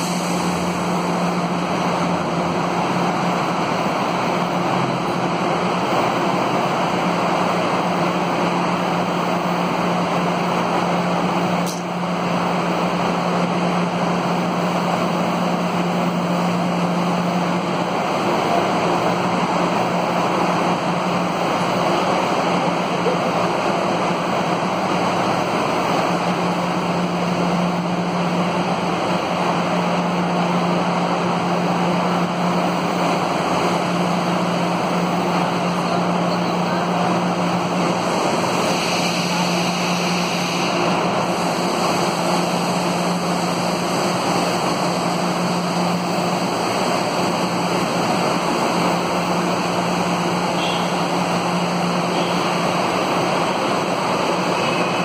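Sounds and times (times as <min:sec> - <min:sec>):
train equipment humming: 0:00.0 - 0:55.0.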